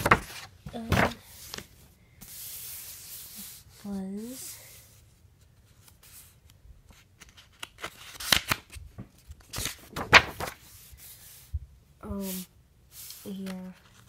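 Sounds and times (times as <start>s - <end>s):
paper pages rustling: 0.0s - 3.8s, 5.4s - 11.5s, 12.2s - 14.0s.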